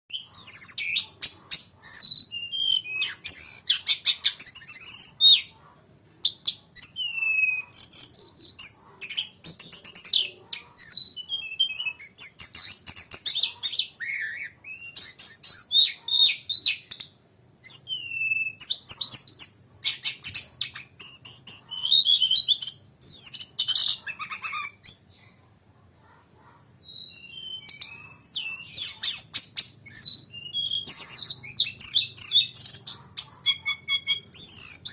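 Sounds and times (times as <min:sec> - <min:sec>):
bird chirping and trilling: 0:00.1 - 0:05.6, 0:06.2 - 0:25.4, 0:26.6 - 0:34.9.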